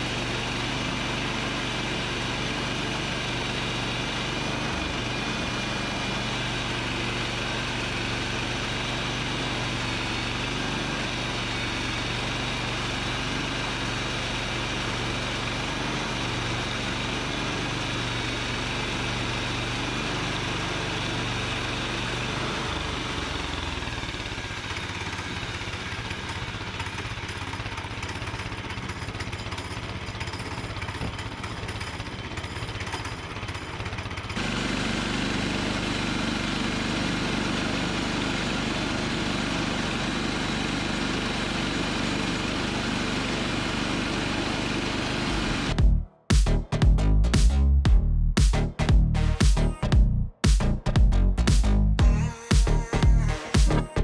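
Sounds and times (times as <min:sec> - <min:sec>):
sawmill engine running: 0:00.0 - 0:47.5, 0:48.4 - 0:54.0.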